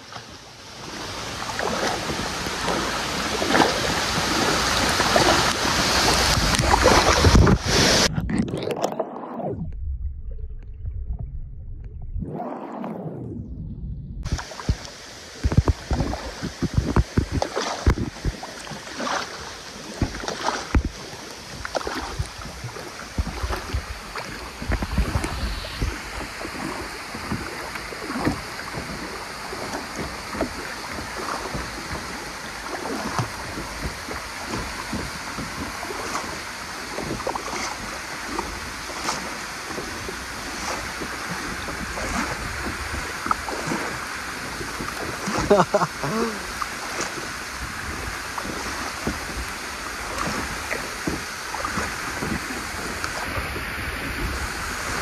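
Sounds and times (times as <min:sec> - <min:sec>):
waterfall rushing: 0:00.0 - 0:08.1, 0:14.3 - 0:55.0
water splashing and sloshing: 0:00.0 - 0:55.0.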